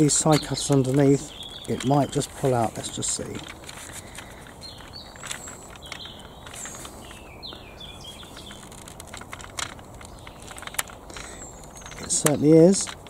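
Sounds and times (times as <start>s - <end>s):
side cutters clicking on plastic: 0.0s - 13.0s
small birds chirping: 0.0s - 13.0s.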